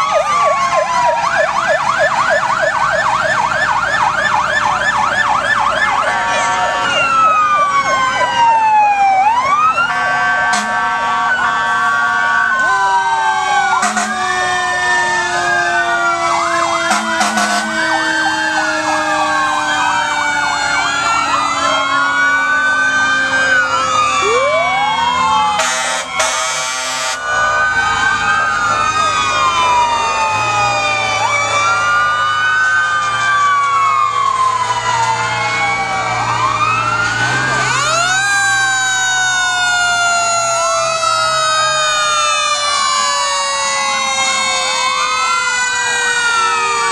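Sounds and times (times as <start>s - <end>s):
emergency sirens wailing: 0.0s - 46.9s.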